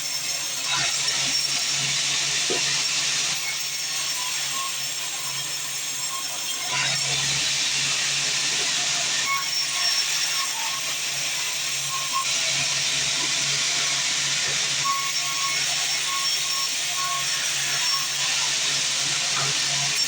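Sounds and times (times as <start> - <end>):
band saw cutting timber: 0.0 - 20.0.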